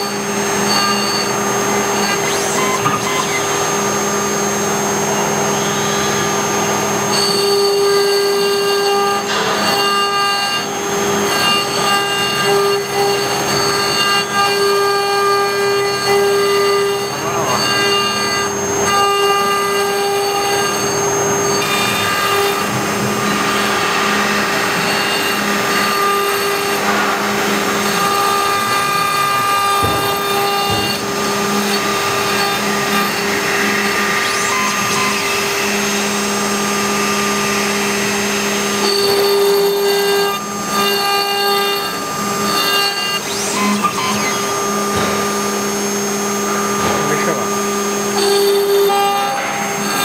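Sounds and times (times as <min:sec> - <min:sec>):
router spindle whine: 0:00.0 - 0:50.0
engraving bit grinding hiss: 0:07.2 - 0:50.0.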